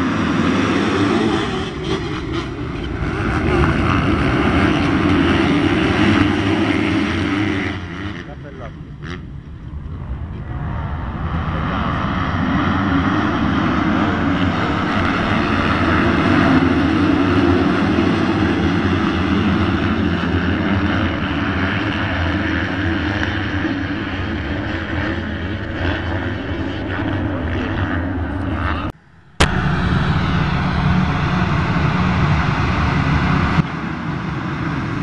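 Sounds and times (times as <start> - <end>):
motocross bikes revving: 0.0 - 10.3, 11.6 - 33.7.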